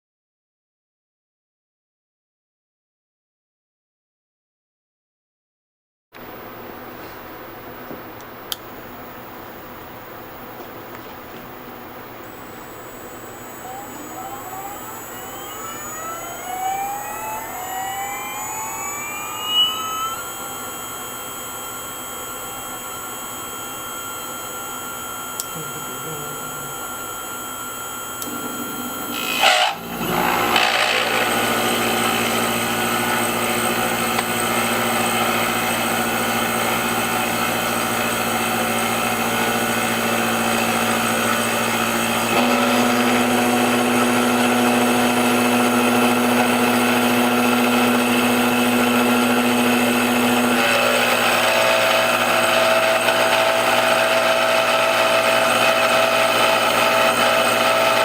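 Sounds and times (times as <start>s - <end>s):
machine motors whining: 10.3s - 58.0s.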